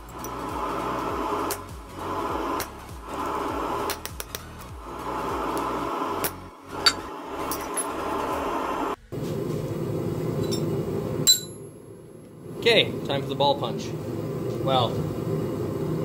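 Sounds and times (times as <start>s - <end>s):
steady background drone: 0.0s - 16.0s.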